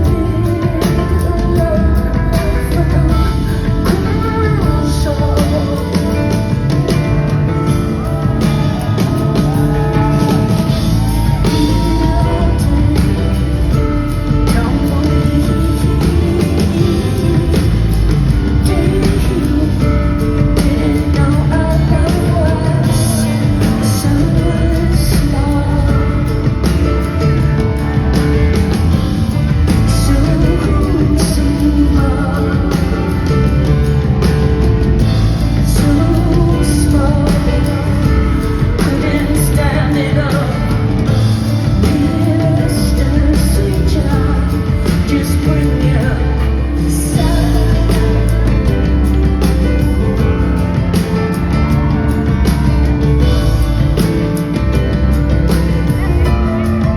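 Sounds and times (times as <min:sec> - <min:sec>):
live rock band playing: 0:00.0 - 0:56.9
woman singing lead: 0:00.0 - 0:56.9.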